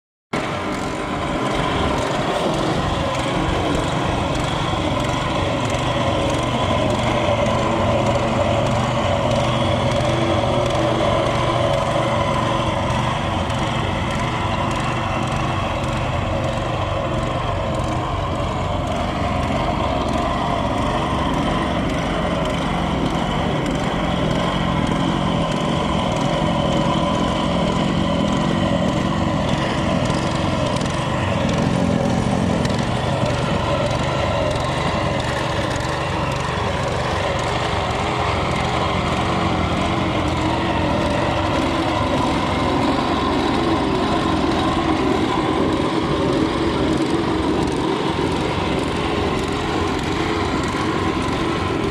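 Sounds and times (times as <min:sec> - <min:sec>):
engine running steadily: 0:00.3 - 0:51.9.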